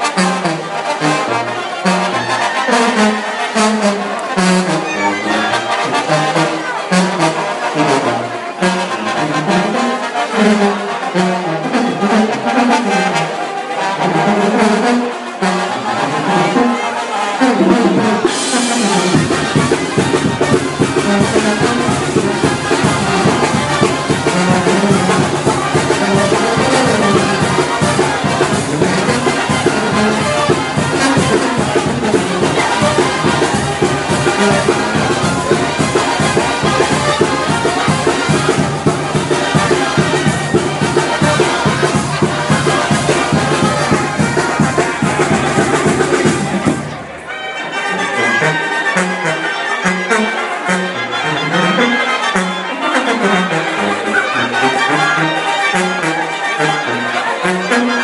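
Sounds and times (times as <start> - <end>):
brass band dance music: 0.0 - 58.0.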